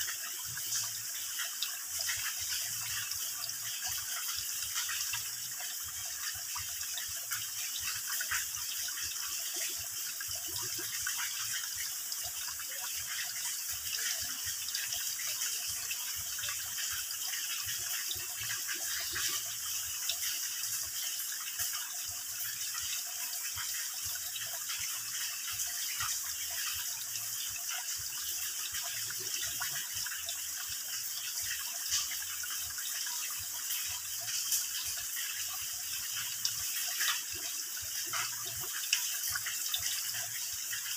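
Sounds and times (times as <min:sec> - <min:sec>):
water trickling and dripping: 0:00.0 - 0:40.9.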